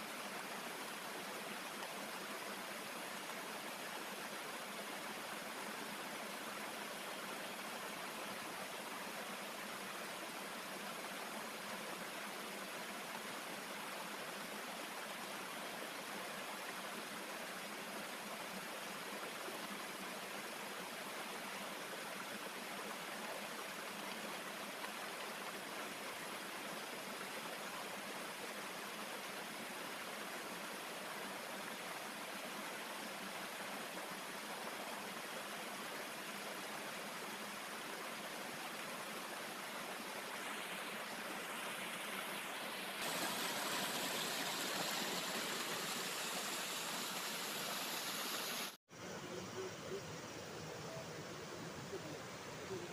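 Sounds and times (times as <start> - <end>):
stream rushing over rocks: 0.0 - 49.1.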